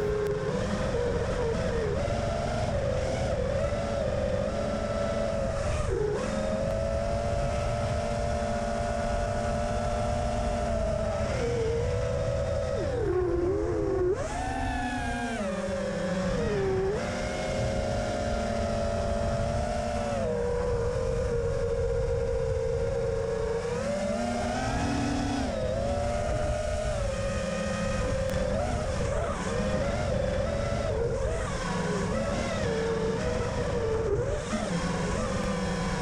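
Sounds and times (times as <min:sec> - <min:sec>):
drone motors whining: 0:00.0 - 0:36.0
wind noise: 0:00.0 - 0:36.0.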